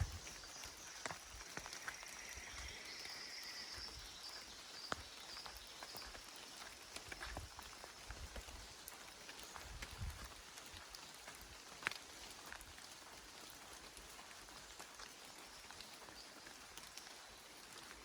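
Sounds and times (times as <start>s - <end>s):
rain falling in forest: 0.0s - 18.0s
raindrops dripping and tapping: 0.0s - 18.0s.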